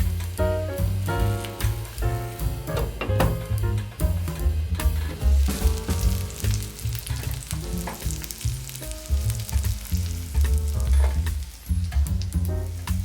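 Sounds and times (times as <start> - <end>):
food sizzling in a pan: 0.0 - 2.7, 3.3 - 13.0
background music: 0.0 - 13.0.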